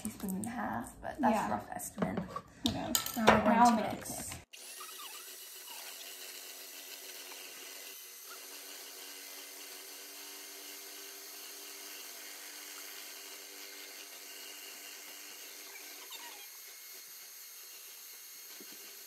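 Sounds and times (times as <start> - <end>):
electric hand mixer humming: 2.8 - 19.0.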